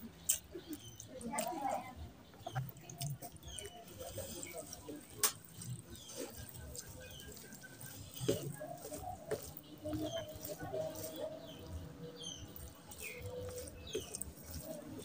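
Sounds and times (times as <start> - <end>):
chewing and lip smacks: 0.2 - 15.0
hand squelching rice and curry: 0.2 - 15.0.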